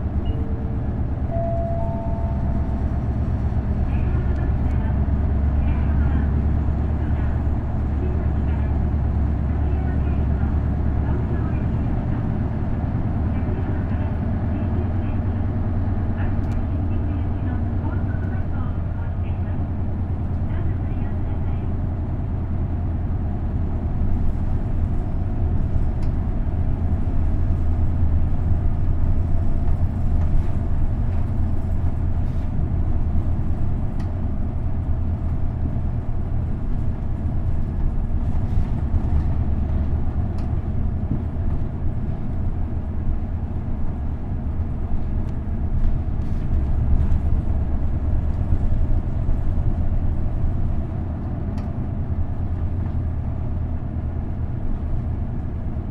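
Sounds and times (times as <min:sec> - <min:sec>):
bus diesel engine drone: 0:00.0 - 0:55.9
road noise: 0:00.0 - 0:55.9.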